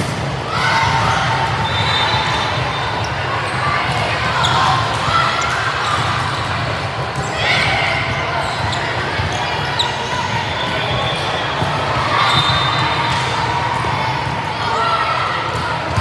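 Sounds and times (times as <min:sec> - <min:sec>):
voices and chatter: 0:00.0 - 0:16.0.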